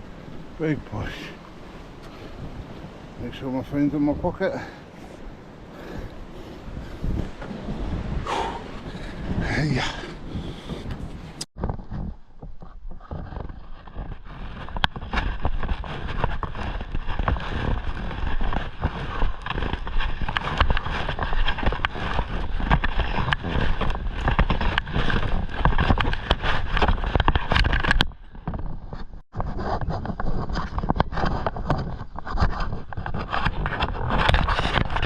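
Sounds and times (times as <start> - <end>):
rustling against microphone: 0.0 - 35.0
footsteps climbing steps: 4.6 - 35.0.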